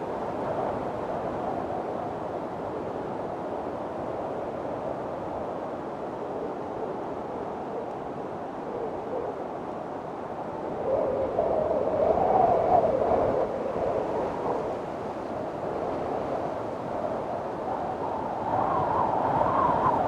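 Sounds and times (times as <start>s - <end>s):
strong wind blowing: 0.0s - 20.0s.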